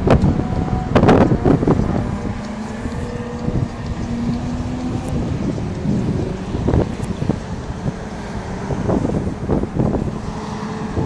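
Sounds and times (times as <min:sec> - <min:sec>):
faint engine drone: 0:00.0 - 0:11.0
wind buffeting microphone: 0:00.0 - 0:11.0.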